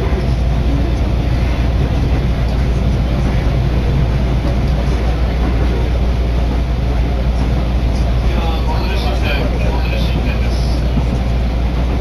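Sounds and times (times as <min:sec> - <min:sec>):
train running rumble and hiss: 0:00.0 - 0:12.0.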